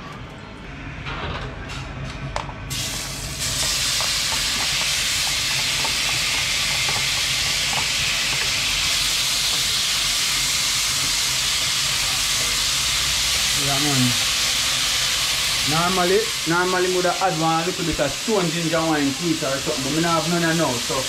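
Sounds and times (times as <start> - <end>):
vegetables sizzling in oil: 2.7 - 21.0.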